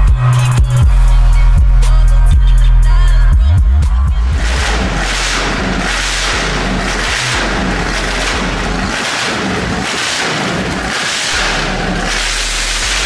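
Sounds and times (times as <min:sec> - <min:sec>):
engine running with surging noise: 0:00.4 - 0:13.0.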